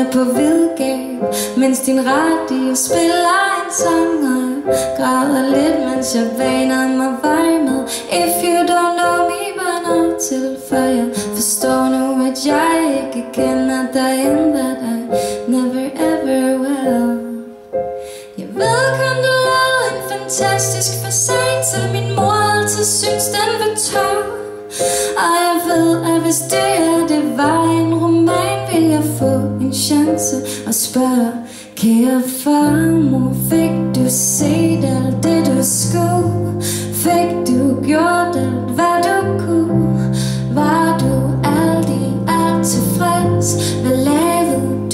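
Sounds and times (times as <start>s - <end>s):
digital piano playing: 0.0s - 44.9s
woman singing: 0.0s - 44.9s.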